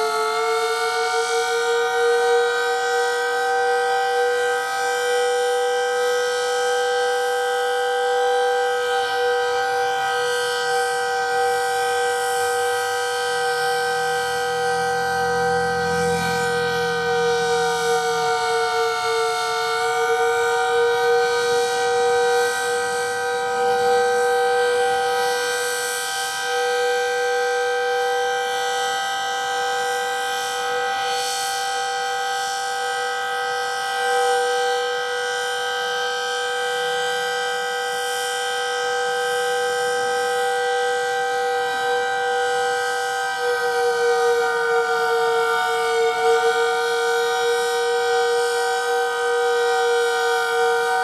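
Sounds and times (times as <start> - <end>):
warning siren steady tone: 0.0 - 51.0.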